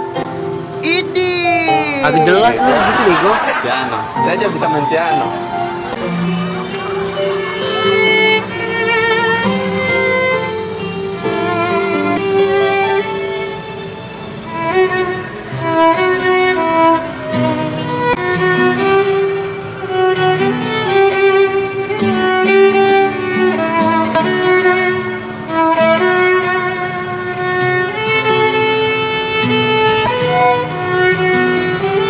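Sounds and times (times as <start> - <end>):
solo violin melody: 0.0 - 32.0.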